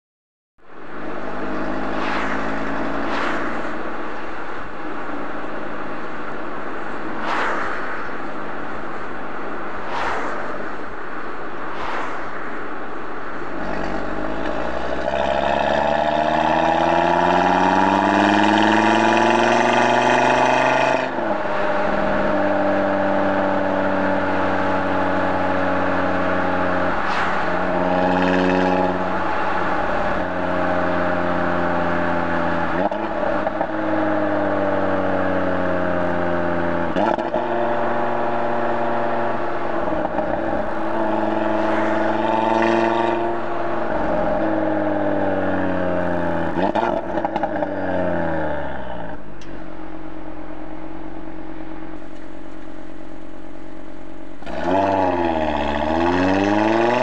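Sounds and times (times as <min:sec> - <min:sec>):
car exhaust engine drone: 0:00.6 - 0:57.0.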